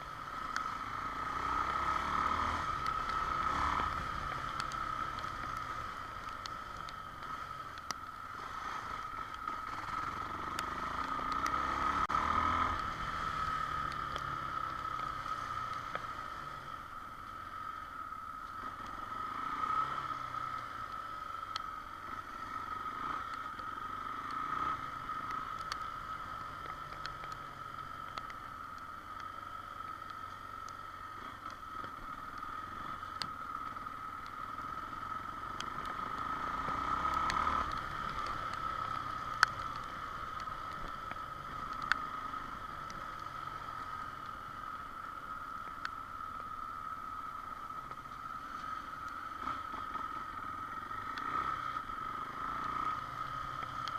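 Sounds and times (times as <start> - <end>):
motorcycle engine: 0.0 - 53.9
road noise: 0.0 - 53.9.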